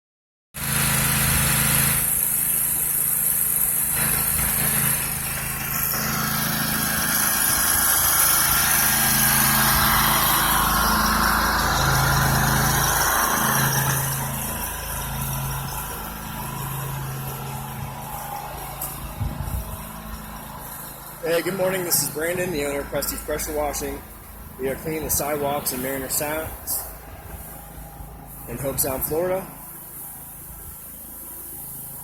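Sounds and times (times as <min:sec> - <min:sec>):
pressure washer engine running: 0:00.6 - 0:32.0
water spraying on concrete: 0:00.6 - 0:32.0.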